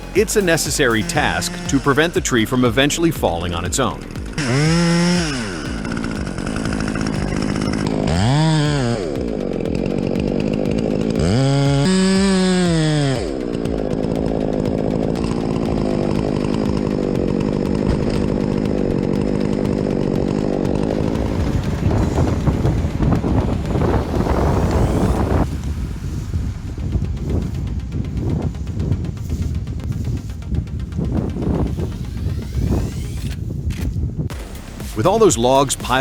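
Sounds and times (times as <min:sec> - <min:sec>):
chainsaw revving: 0:00.0 - 0:36.0.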